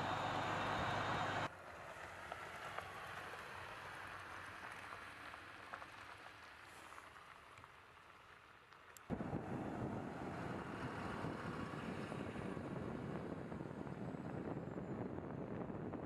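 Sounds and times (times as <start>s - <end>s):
tyre and road noise: 0.0s - 14.6s.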